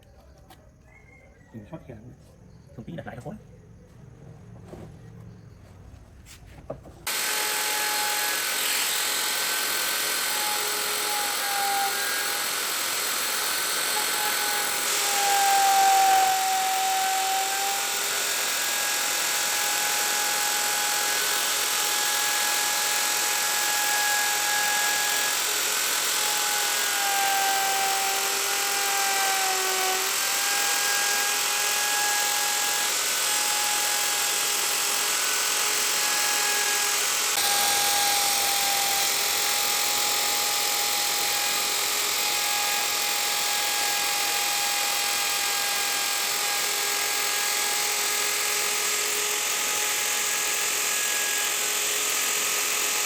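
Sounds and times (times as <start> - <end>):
power tool motor whine: 7.0 - 53.0.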